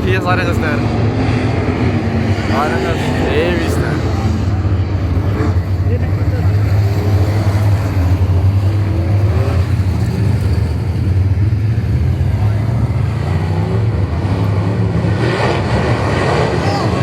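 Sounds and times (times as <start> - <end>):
race car engine drone: 0.0 - 17.0.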